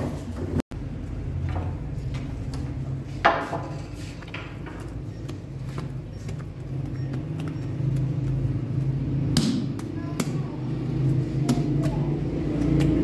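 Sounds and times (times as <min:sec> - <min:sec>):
low machine hum: 0:00.4 - 0:13.0.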